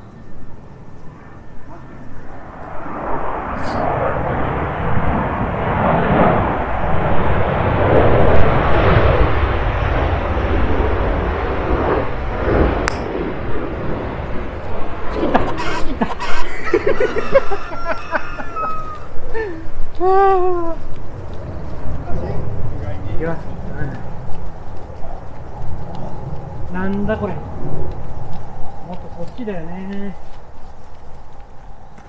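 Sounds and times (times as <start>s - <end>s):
aircraft passing overhead: 0.0s - 32.0s.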